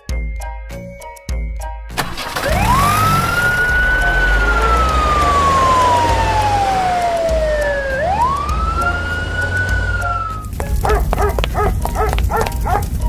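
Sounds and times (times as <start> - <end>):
fire truck siren wailing: 2.1 - 13.0.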